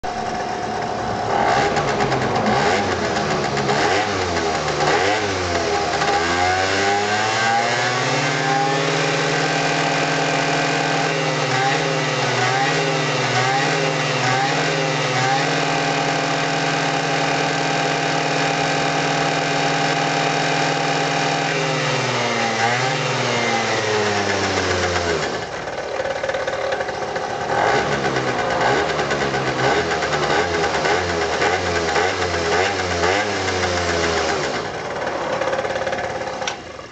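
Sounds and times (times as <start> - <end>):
scooter engine revving: 0.0 - 36.9.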